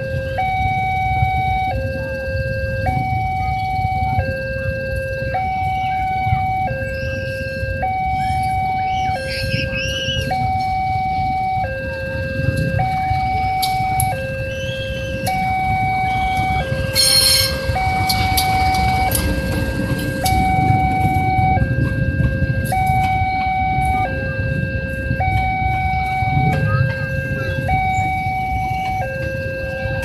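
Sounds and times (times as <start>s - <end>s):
level crossing alarm two-tone: 0.0s - 30.0s
train wheels rumbling on rails: 0.0s - 30.0s.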